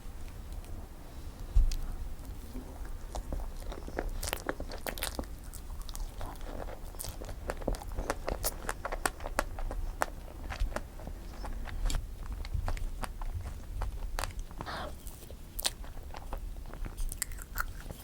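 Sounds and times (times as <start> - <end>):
chewing and biting cake: 1.7 - 18.0.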